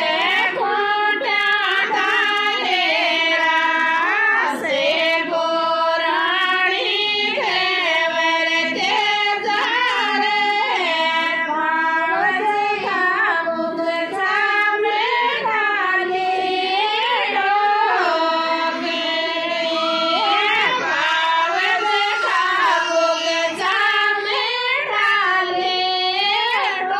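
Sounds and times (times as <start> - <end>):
woman singing devotional song: 0.0 - 26.9.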